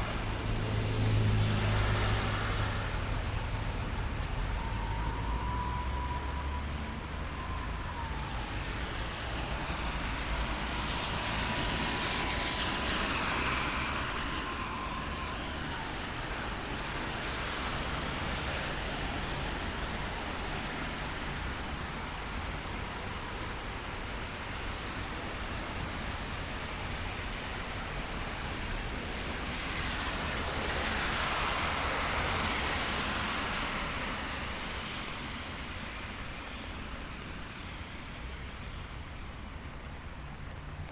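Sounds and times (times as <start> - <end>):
tyres hissing on wet road: 0.0 - 40.9
rain hiss: 0.1 - 40.8.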